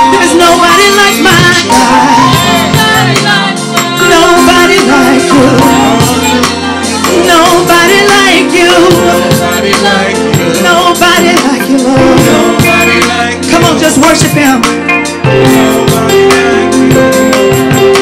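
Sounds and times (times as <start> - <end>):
band playing chords: 0.0 - 18.0
people singing: 0.0 - 18.0
steady percussion: 0.0 - 18.0.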